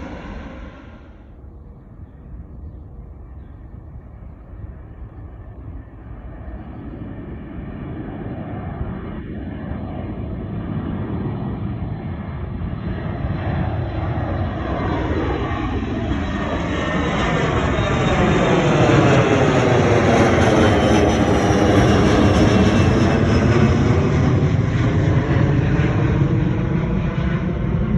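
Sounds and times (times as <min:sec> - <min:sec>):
jet airliner taking off: 0:00.0 - 0:01.6, 0:04.2 - 0:27.9.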